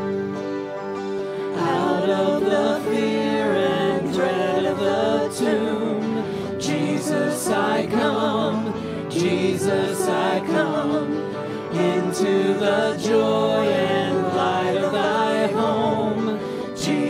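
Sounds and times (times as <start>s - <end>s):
keyboard: 0.0s - 17.0s
strummed guitars: 0.0s - 17.0s
group of singers: 1.2s - 17.0s.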